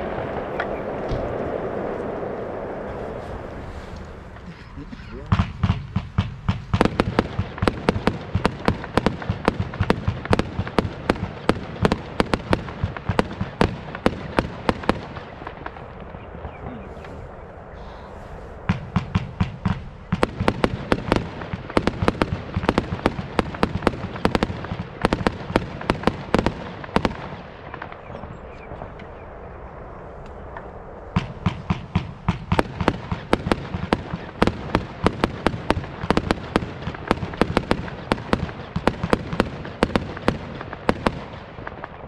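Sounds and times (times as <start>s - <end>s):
fireworks firing: 0.0s - 42.0s.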